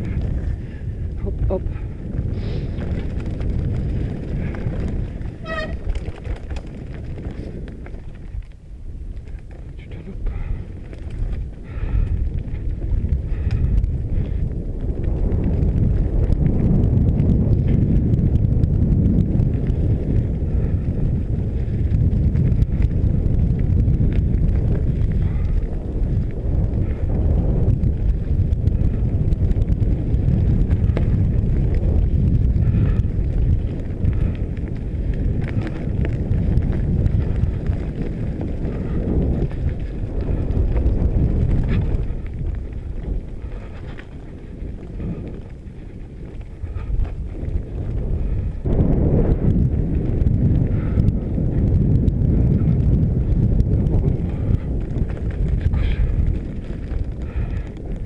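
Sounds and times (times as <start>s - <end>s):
tyres rolling on dirt: 0.0s - 58.0s
wind rush on microphone: 0.0s - 58.0s
bike knocks and rattles: 2.0s - 58.0s.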